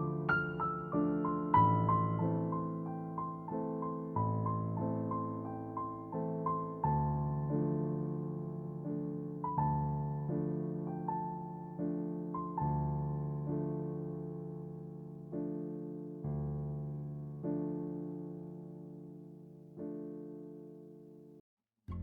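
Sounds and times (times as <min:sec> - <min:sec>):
soft slow piano music: 0:00.0 - 0:21.4.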